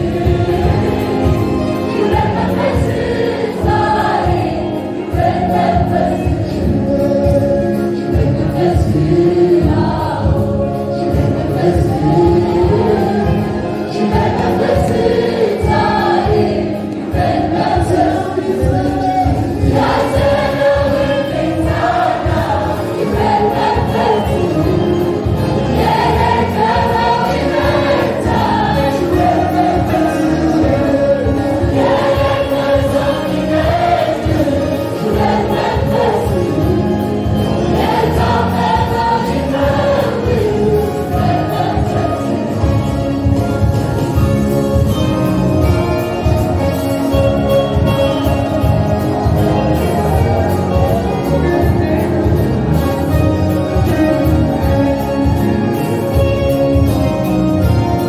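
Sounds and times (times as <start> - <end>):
choir singing gospel song: 0.0 - 58.0.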